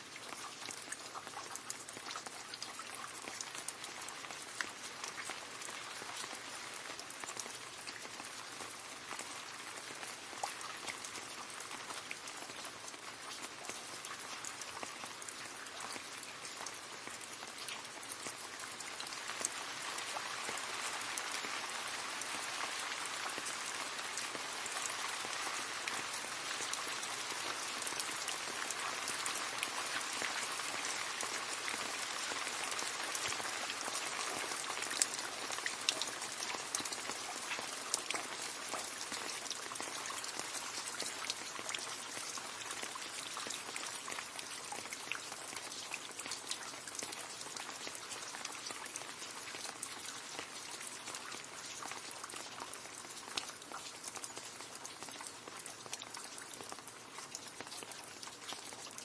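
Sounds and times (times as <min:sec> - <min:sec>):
rain splashing into a puddle: 0:00.0 - 0:59.0.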